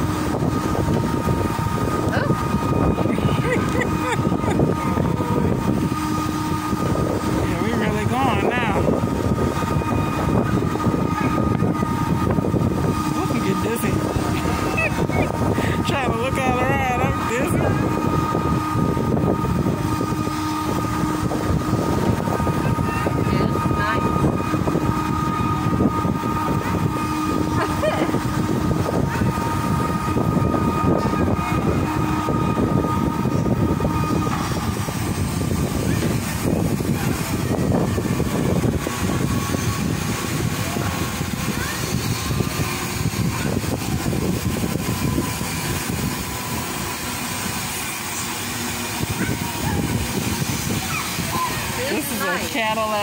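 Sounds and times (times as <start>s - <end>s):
amusement ride rumbling and whirring: 0.0s - 53.0s
steady high hum: 0.0s - 53.0s
faint voices: 0.1s - 53.0s.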